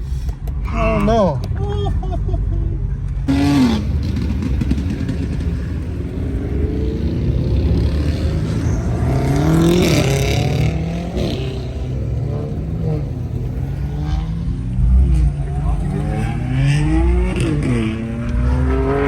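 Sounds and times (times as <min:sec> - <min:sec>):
car engine accelerating hard: 0:03.3 - 0:19.0.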